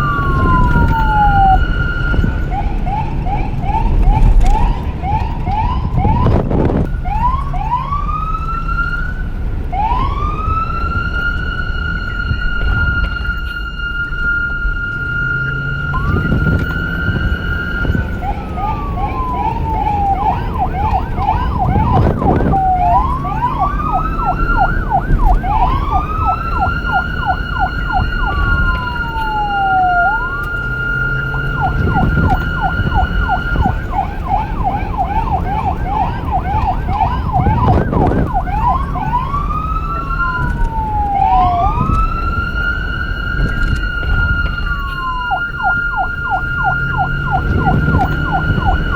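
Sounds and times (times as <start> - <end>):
low vehicle rumble: 0.0 - 48.9
police car siren: 0.0 - 48.9.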